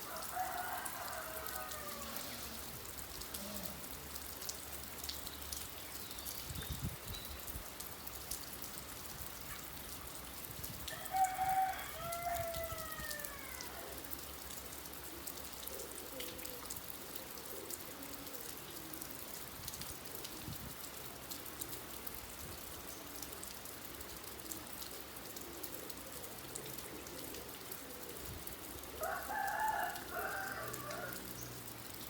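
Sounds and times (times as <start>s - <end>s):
steady rain: 0.0s - 32.0s
water drips: 0.0s - 32.0s.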